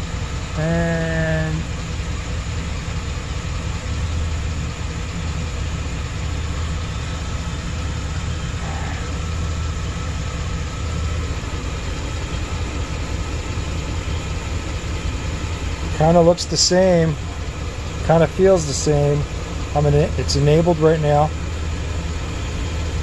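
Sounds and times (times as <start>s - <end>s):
van engine idling unevenly: 0.0s - 23.0s.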